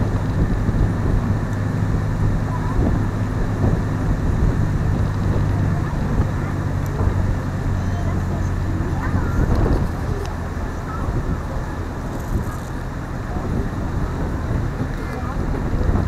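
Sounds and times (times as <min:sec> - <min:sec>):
boat engine humming: 0:00.0 - 0:16.0
water and wind noise: 0:00.0 - 0:16.0.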